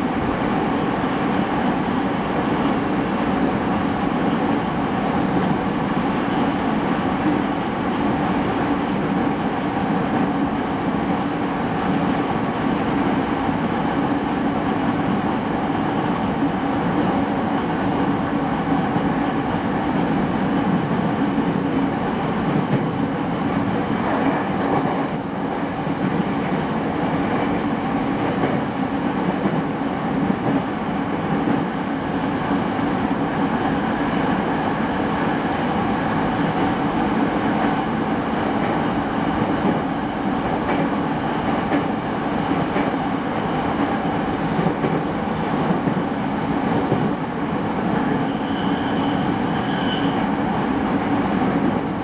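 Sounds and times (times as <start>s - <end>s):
train wheels on rail: 0.0s - 52.0s.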